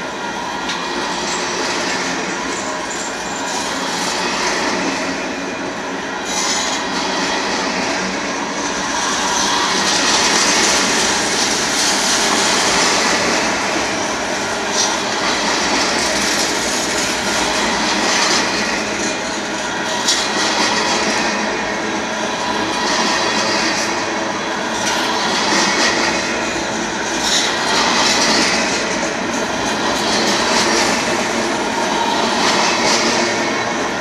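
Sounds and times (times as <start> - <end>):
train cars rolling on rails: 0.0 - 34.0.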